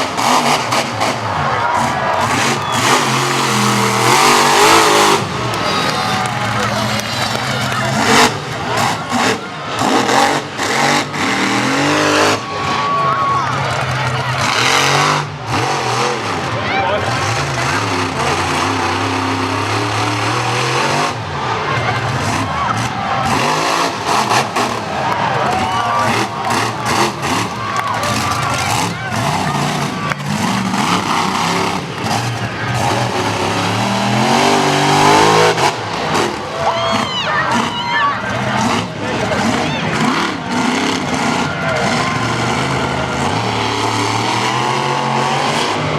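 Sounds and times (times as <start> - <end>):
loud engine bursts: 0.0 - 45.9
truck engine revving hard: 0.0 - 45.9.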